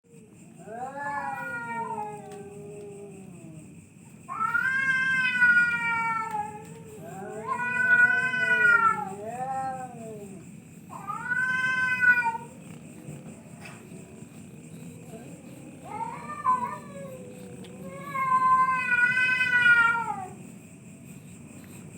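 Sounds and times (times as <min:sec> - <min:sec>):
cats yowling: 0:00.1 - 0:20.5.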